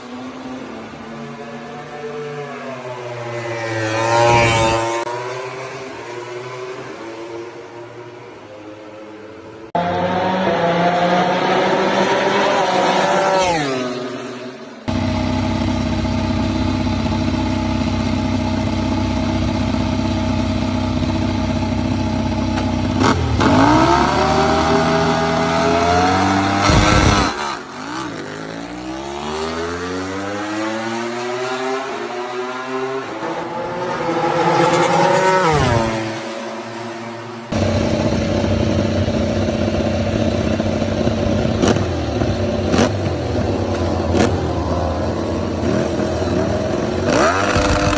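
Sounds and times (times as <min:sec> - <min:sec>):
racing motorcycle engines: 0:00.0 - 0:47.9.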